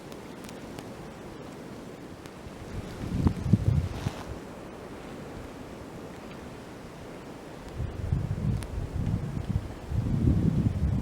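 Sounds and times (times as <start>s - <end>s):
steady wind hiss: 0.0s - 11.0s.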